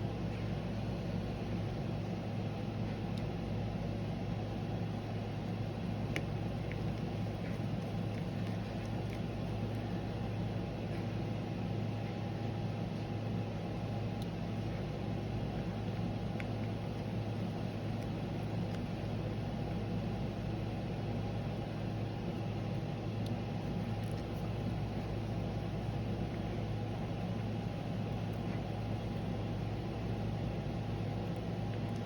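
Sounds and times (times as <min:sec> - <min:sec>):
machine hum: 0:03.7 - 0:32.0.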